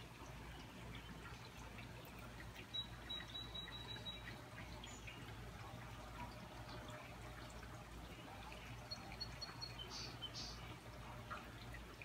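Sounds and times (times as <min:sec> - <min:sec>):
faint steady rain: 0:00.0 - 0:12.0
drips near microphone: 0:00.2 - 0:12.0.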